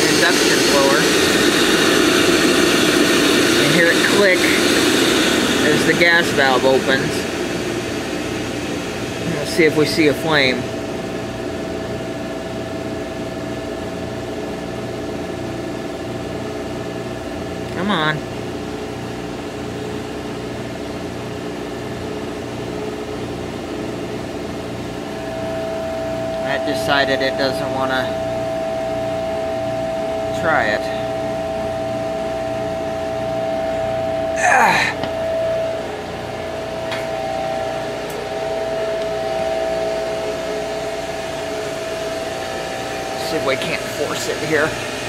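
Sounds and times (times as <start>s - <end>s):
boiler blower humming: 0.0s - 45.0s
machinery whirring and whining: 0.0s - 45.0s.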